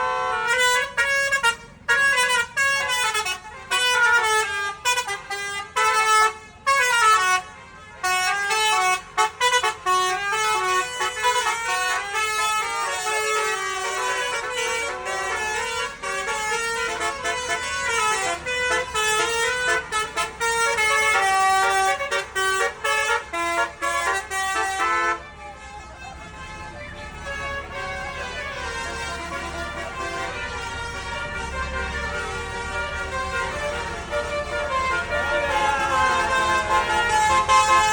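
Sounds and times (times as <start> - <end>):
multi-tone bus horn melody: 0.0 - 37.9.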